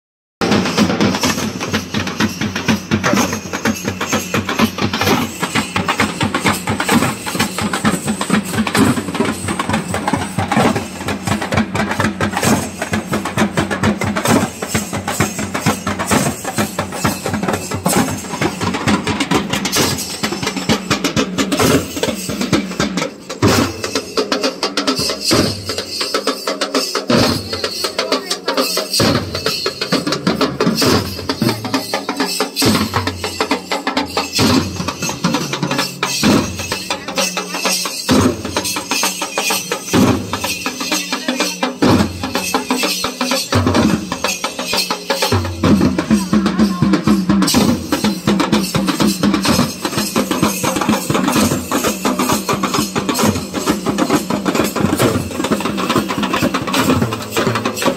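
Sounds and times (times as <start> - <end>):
dhol drums fast rhythm: 0.4 - 57.9.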